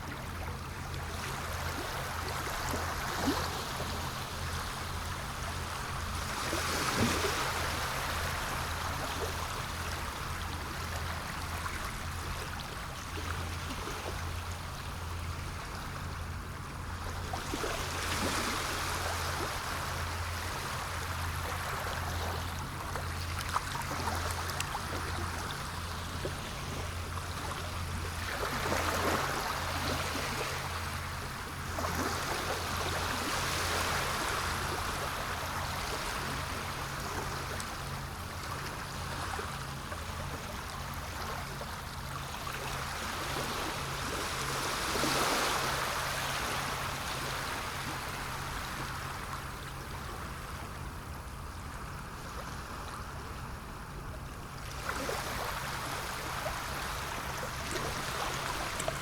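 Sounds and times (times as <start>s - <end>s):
sea surf waves: 0.0s - 53.9s, 54.6s - 59.0s.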